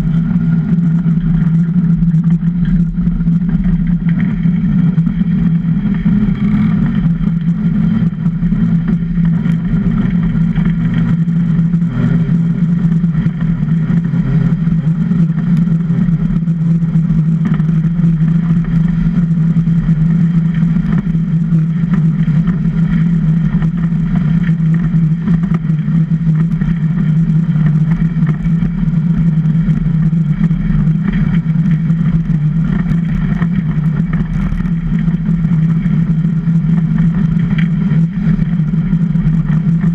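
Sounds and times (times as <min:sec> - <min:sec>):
iceboat runners rumbling over ice: 0:00.0 - 0:39.9.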